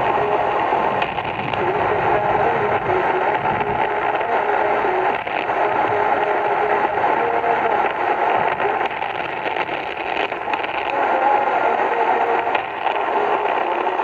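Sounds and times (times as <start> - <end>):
faint broken radio tones: 0.0 - 14.0
radio crackles: 0.0 - 14.0
radio static hiss: 0.0 - 14.0.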